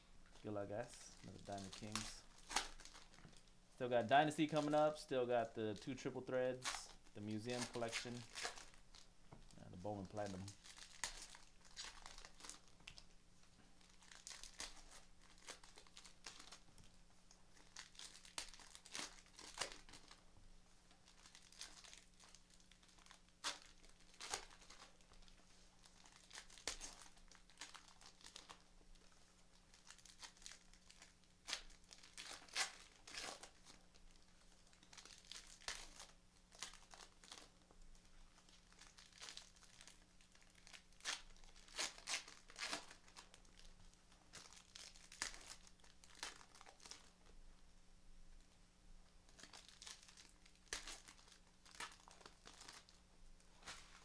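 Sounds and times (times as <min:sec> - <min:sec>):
wrappers tearing and crinkling: 0:00.8 - 0:13.1, 0:13.8 - 0:16.9, 0:17.5 - 0:20.2, 0:21.0 - 0:47.4, 0:49.3 - 0:53.0.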